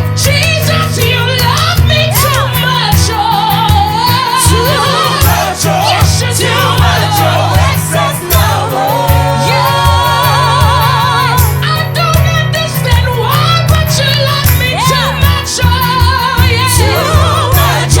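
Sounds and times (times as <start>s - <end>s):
bass line: 0.0s - 18.0s
drums: 0.0s - 18.0s
person singing with vibrato: 0.2s - 18.0s.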